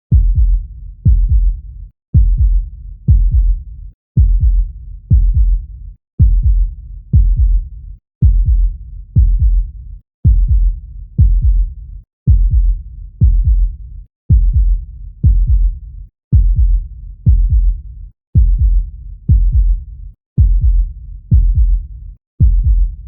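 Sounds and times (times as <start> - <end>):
heartbeat: 0.1 - 23.0.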